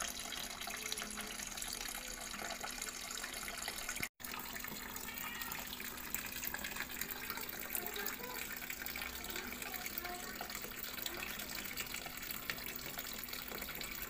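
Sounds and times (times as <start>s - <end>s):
water trickling into pond: 0.0s - 14.0s.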